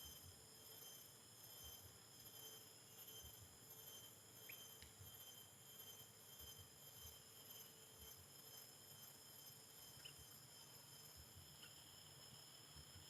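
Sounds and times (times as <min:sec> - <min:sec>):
faint high-pitched tones: 0:00.0 - 0:13.0.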